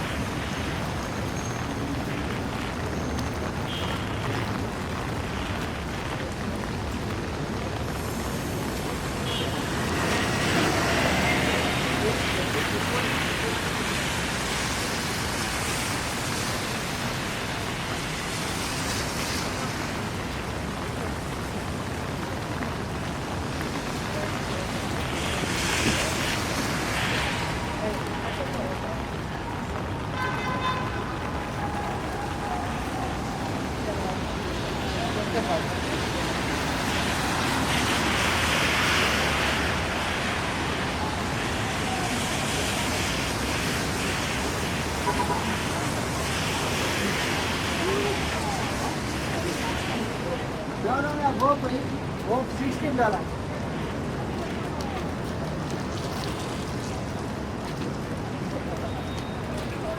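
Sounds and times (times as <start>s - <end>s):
heavy rain on street: 0.0s - 59.9s
traffic noise: 0.0s - 59.9s
tyres hissing on wet pavement: 0.0s - 59.9s.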